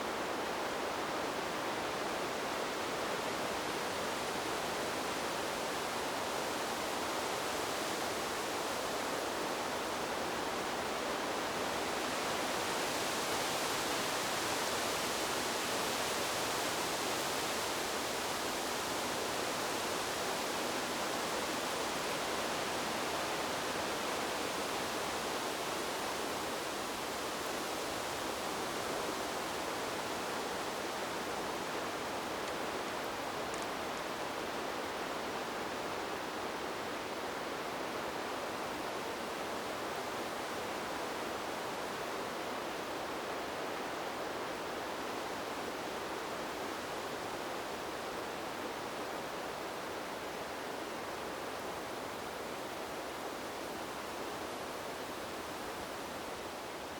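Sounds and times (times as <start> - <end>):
wind rustling bamboo leaves: 0.0 - 56.9.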